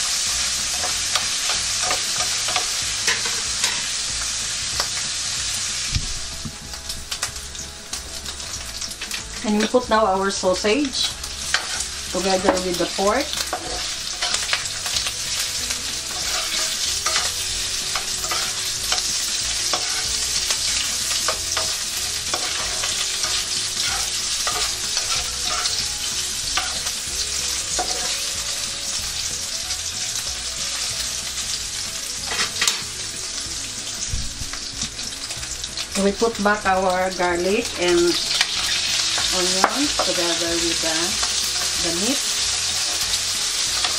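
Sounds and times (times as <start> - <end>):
meat sizzling in a frying pan: 0.0 - 43.9.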